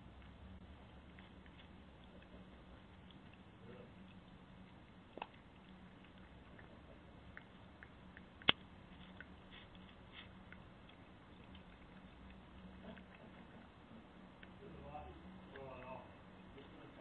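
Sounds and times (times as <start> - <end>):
animal chewing dog food: 0.0 - 17.0.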